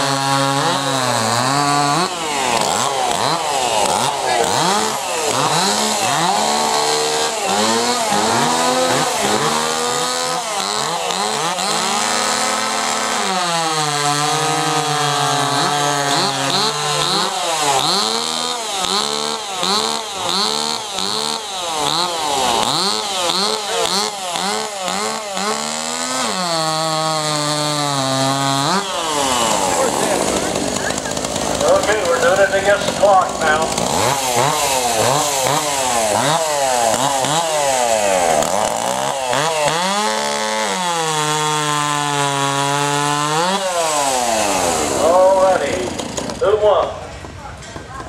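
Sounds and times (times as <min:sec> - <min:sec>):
chainsaw cutting log: 0:00.0 - 0:48.0.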